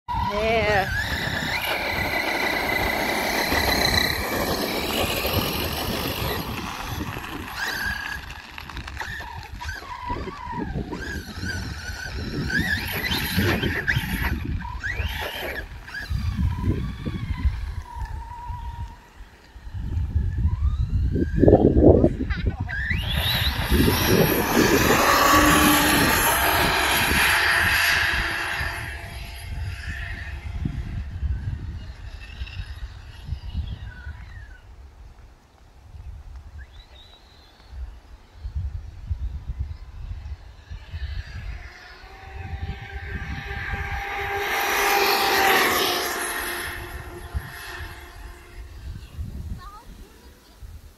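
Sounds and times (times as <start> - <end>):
electric motor whining: 0.1 - 34.7, 38.4 - 49.6
wheels rolling on asphalt: 0.1 - 50.9.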